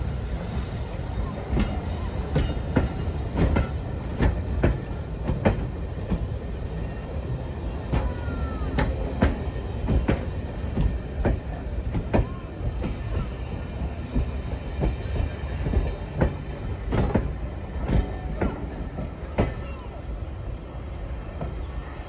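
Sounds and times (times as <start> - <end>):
wheels clicking on rail joints: 0.0 - 19.8
train rumbling past: 0.0 - 22.0.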